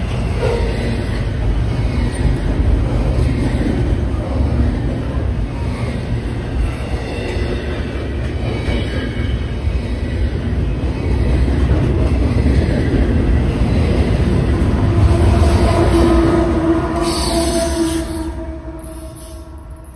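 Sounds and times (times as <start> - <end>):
freight train rumbling past: 0.0 - 19.9.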